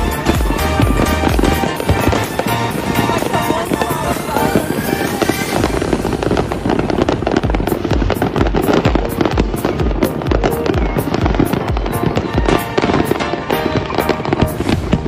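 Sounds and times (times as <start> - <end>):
steady beat: 0.0 - 6.3, 7.1 - 15.0
background music: 0.0 - 15.0
fireworks popping and crackling: 0.0 - 15.0.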